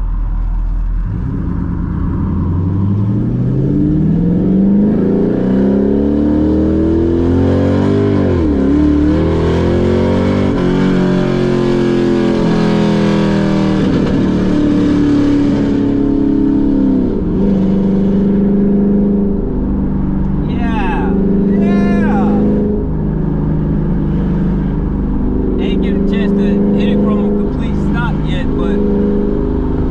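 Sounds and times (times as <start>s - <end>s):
car engine accelerating hard: 0.9s - 29.9s.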